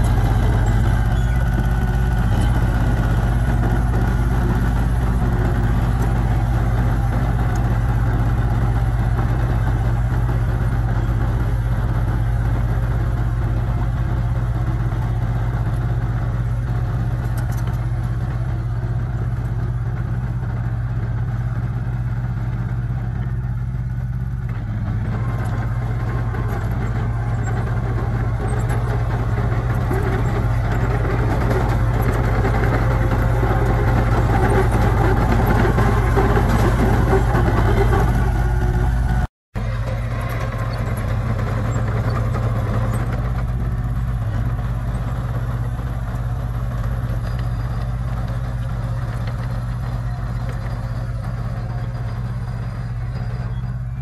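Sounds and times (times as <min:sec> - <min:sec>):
bulldozer diesel engine running: 0:00.0 - 0:54.0
bulldozer pushing soil and rock: 0:00.0 - 0:54.0.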